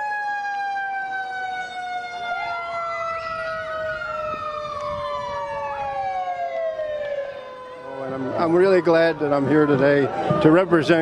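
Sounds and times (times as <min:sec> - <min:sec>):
emergency vehicle sirens: 0:00.0 - 0:11.0.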